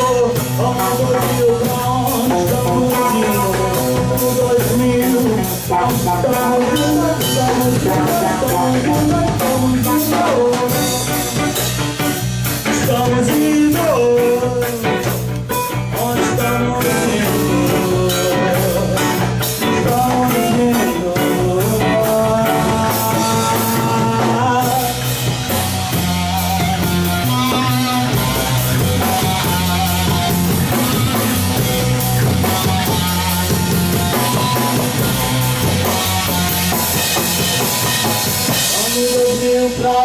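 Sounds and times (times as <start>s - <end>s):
bass guitar: 0.0s - 40.0s
distorted electric guitar: 0.0s - 40.0s
drum kit: 0.0s - 40.0s.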